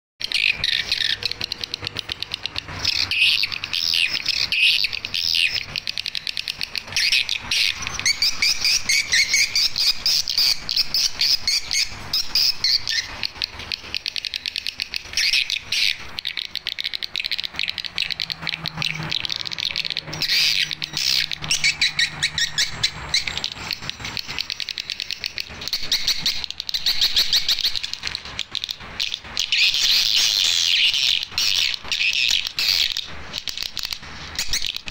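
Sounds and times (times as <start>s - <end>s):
high-pitched bird twittering playback: 0.2s - 34.9s.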